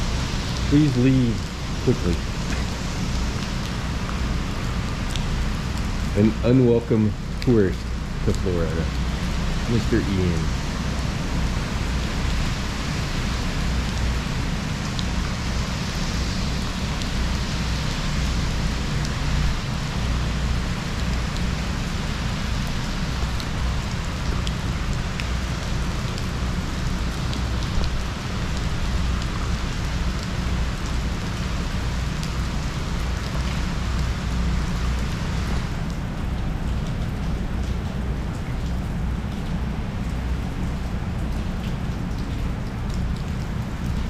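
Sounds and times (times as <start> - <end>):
heavy rain pouring: 0.0 - 44.0
low rumble of wind: 0.0 - 44.0
rain drops ticking: 0.0 - 44.0.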